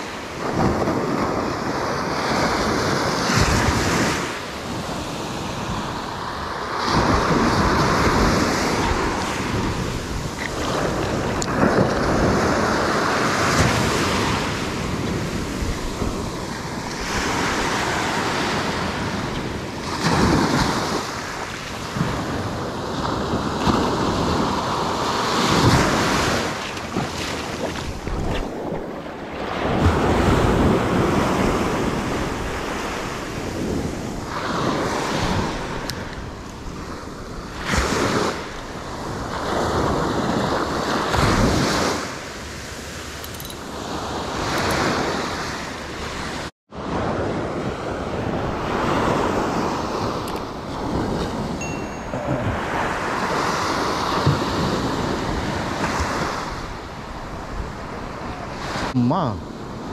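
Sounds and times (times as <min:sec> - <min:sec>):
small waves breaking on sand: 0:00.0 - 0:59.9
wind buffeting microphone: 0:00.0 - 0:59.9.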